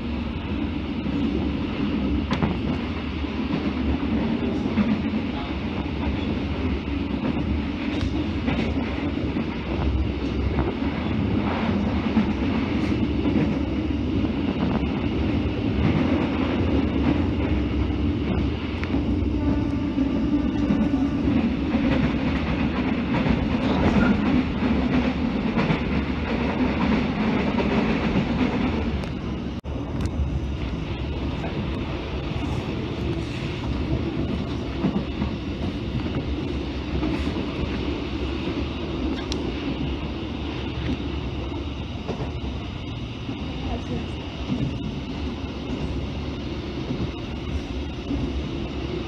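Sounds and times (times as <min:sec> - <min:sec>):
train ride rumble: 0:00.0 - 0:49.0.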